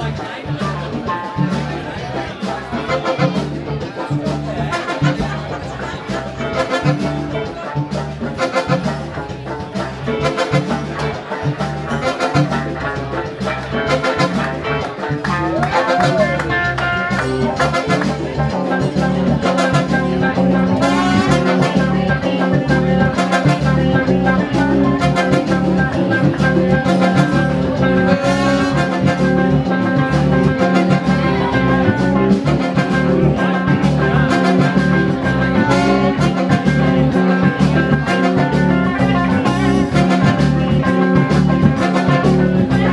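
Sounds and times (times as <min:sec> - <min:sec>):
congas: 0:00.0 - 0:42.9
electric guitar: 0:00.0 - 0:42.9
trombone: 0:00.6 - 0:42.9
saxophone: 0:02.7 - 0:03.8, 0:04.6 - 0:42.9.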